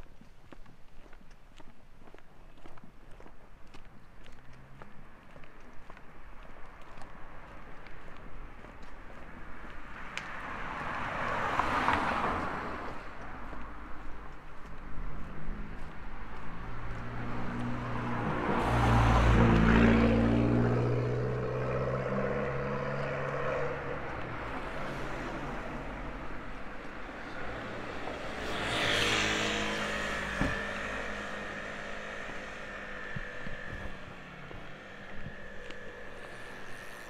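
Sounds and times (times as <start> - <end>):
motor vehicles driving past: 4.1 - 37.0.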